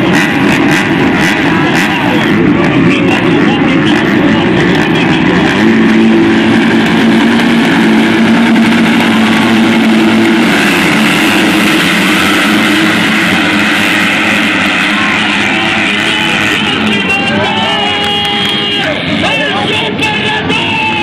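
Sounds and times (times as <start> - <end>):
motocross engines revving: 0.0 - 21.0
motorbikes launching: 0.0 - 21.0.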